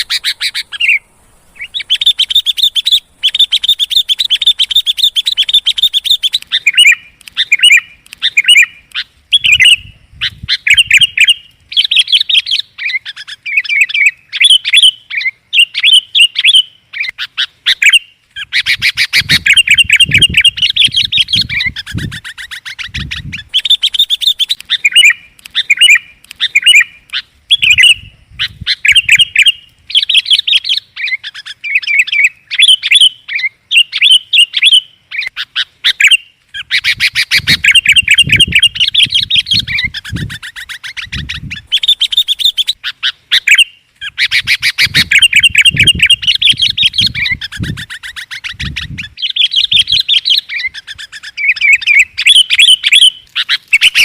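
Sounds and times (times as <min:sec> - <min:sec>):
bulbul bird song: 0:00.0 - 0:54.0.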